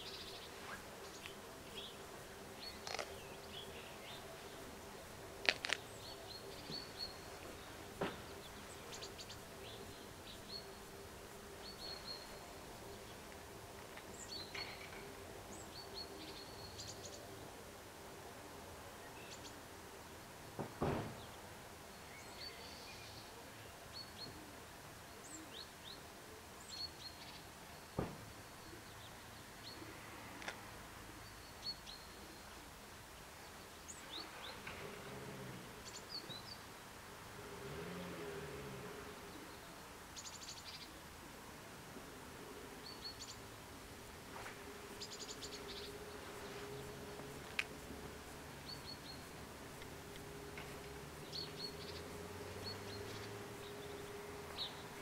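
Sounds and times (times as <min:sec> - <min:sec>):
small birds chirping: 0:00.0 - 0:17.8, 0:21.2 - 0:55.0.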